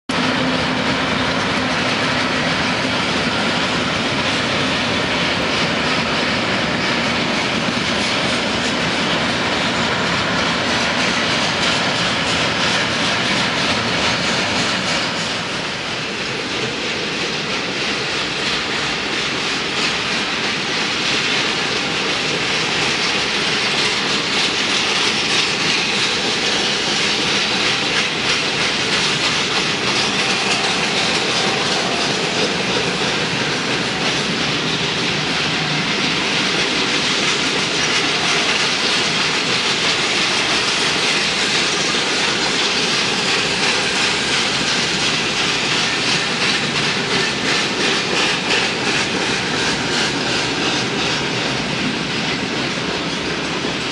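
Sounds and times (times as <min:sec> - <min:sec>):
freight train wheels rolling: 0:00.1 - 0:53.9.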